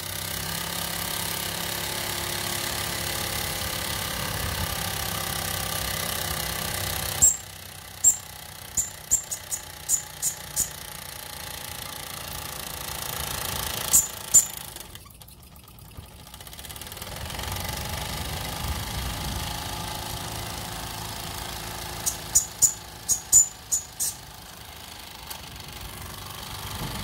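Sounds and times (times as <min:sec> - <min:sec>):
toy steam engine running: 0:00.0 - 0:27.0.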